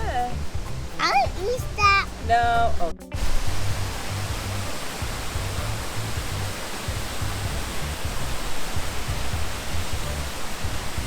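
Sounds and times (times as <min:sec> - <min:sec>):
background music with bass: 0:00.0 - 0:11.0
creek and waterfall rushing: 0:00.5 - 0:11.0.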